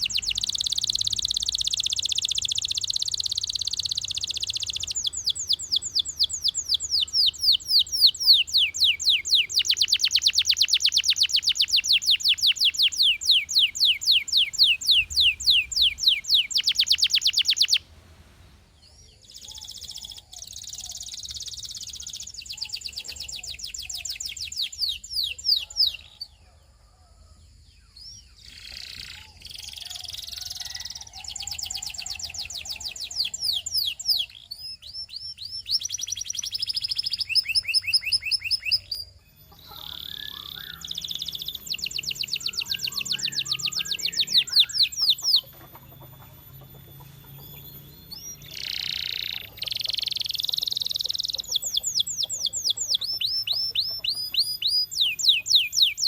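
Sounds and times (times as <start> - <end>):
canary singing: 0.0 - 26.4, 27.8 - 56.0.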